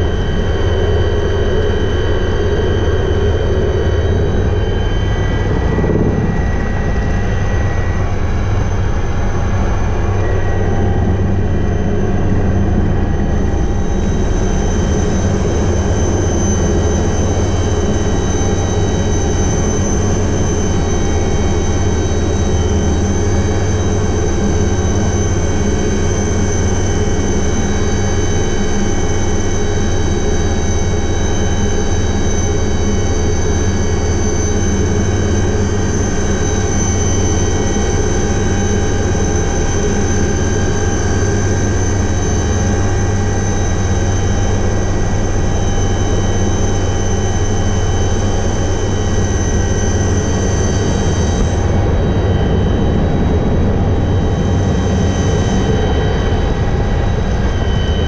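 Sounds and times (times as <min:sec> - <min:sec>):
helicopter engine whine: 0:00.0 - 0:58.0
helicopter rotors droning: 0:00.0 - 0:58.0.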